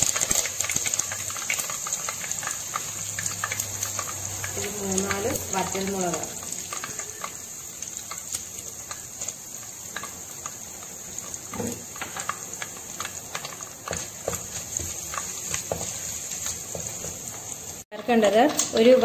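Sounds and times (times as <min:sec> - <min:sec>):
frying sizzle with pops: 0:00.0 - 0:19.0.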